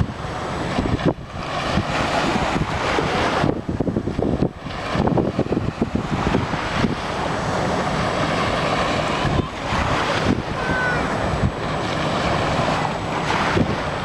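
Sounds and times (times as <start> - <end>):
small waves washing onto sand: 0.0 - 14.0
wind buffeting microphone: 0.0 - 14.0.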